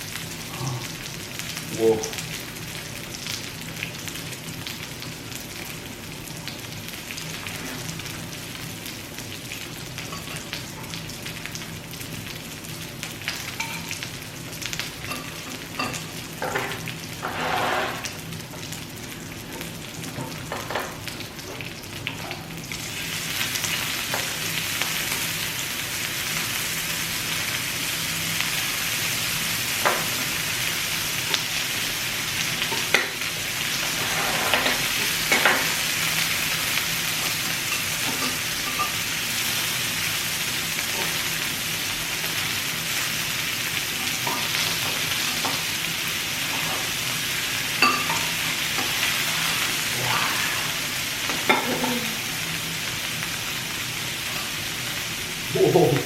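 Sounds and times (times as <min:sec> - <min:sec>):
pork sizzling in fat: 0:00.0 - 0:56.0.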